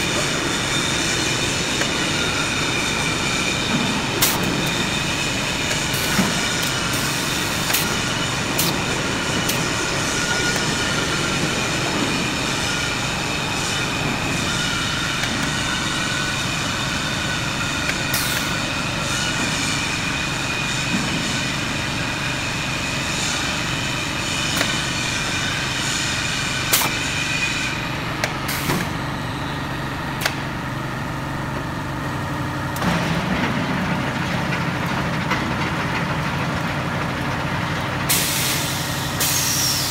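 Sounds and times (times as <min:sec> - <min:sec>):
machinery hum with whining tones: 0:00.0 - 0:39.9
pallet rumbling on roller conveyor: 0:00.0 - 0:39.9.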